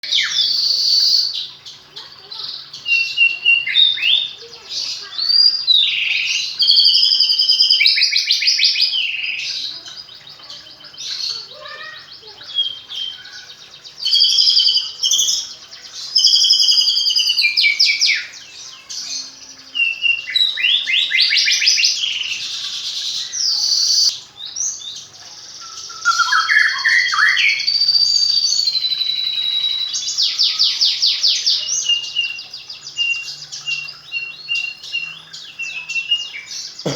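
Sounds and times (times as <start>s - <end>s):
songbird singing: 0.0s - 36.9s.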